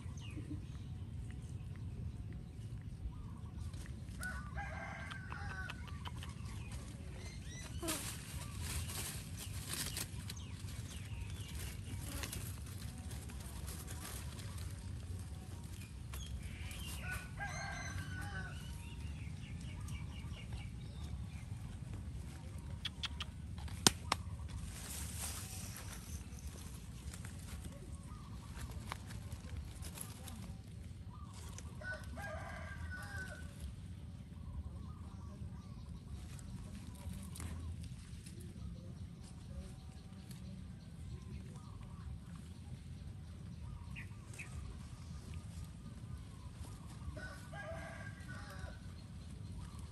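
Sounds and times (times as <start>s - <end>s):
steady low rumble: 0.0s - 32.2s, 32.8s - 49.9s.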